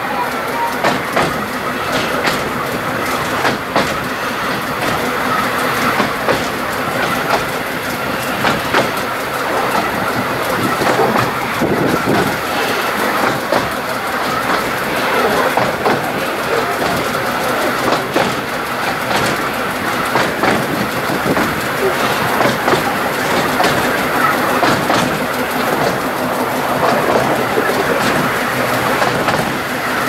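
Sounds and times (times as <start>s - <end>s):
train wheels rumbling on rails: 0.0s - 30.0s
wheels clicking over rail joints: 0.0s - 30.0s.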